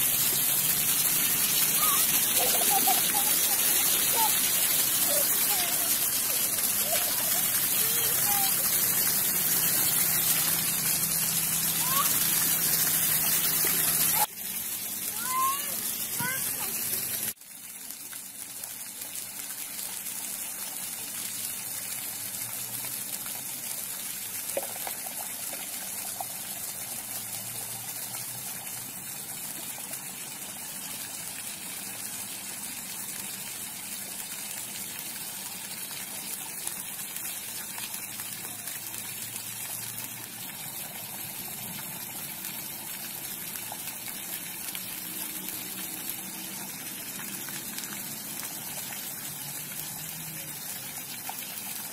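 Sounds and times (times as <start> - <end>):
fountain water splashing: 0.0 - 51.9.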